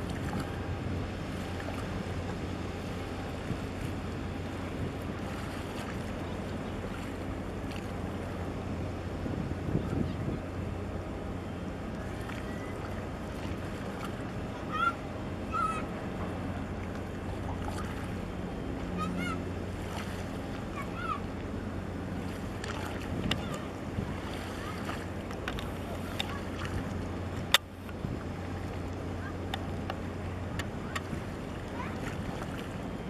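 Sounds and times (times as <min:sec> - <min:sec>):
low engine hum: 0:00.0 - 0:33.0
water lapping: 0:00.0 - 0:33.0.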